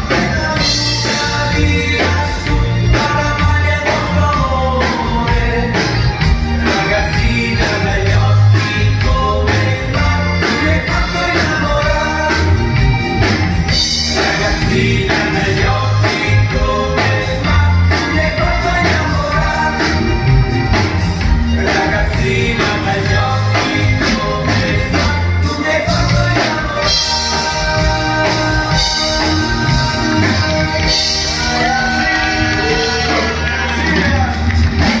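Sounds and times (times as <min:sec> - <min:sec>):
men singing into microphones: 0:00.0 - 0:13.0, 0:13.7 - 0:35.0
electric guitar: 0:00.0 - 0:35.0
steady drum beat: 0:00.0 - 0:35.0.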